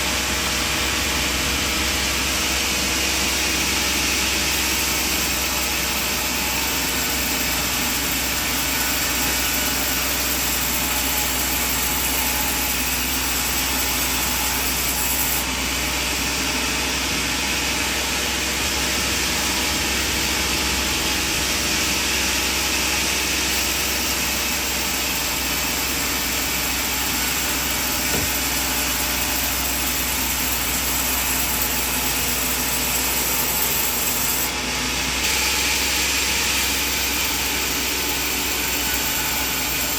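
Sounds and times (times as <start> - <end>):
bandsaw sawing log: 0.0 - 39.9.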